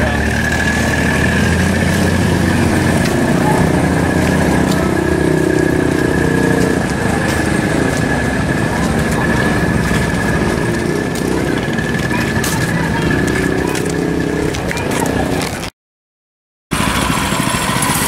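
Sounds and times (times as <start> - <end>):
vehicle engine idling: 0.0 - 15.7, 16.7 - 18.0.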